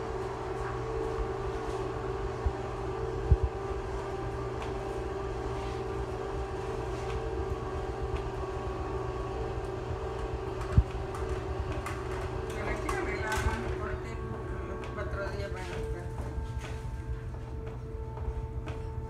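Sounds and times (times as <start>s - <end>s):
shade motors humming: 0.0s - 19.0s.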